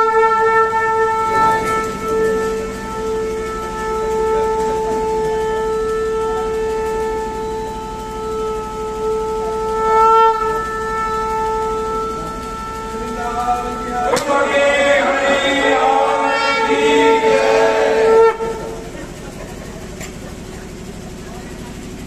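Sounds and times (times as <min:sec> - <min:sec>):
conch shell blown: 0:00.0 - 0:22.0.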